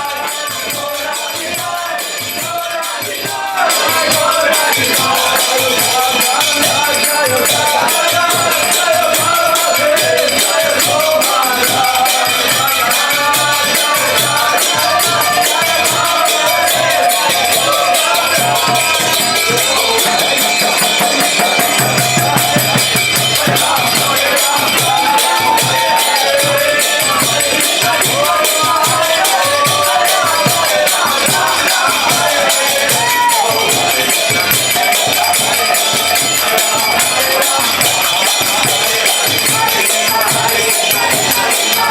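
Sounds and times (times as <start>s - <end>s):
jingling hand percussion: 0.0s - 41.9s
voices singing a chant: 0.0s - 41.9s.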